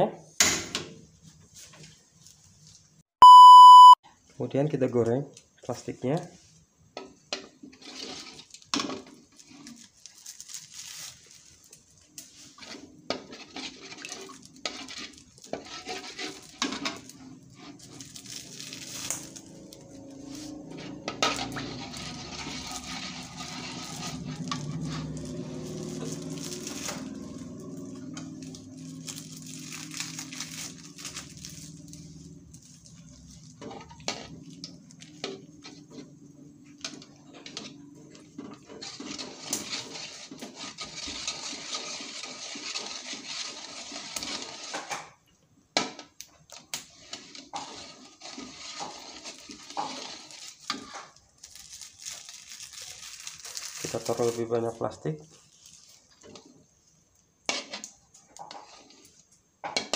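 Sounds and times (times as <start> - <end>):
metal spatula scraping wok: 6.4 - 56.8, 57.4 - 59.9.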